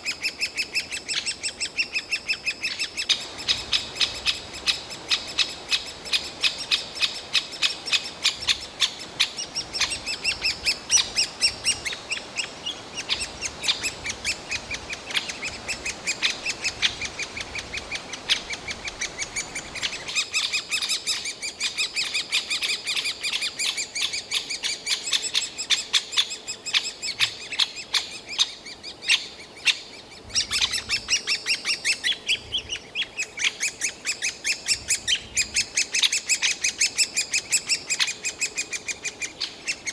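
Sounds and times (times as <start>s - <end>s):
woodpecker chicks begging calls: 0.0s - 39.9s.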